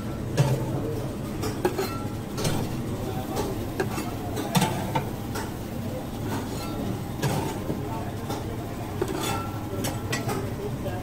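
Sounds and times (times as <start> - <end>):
clinks and knocks of food handling: 0.3 - 0.8, 1.4 - 5.6, 6.2 - 10.5.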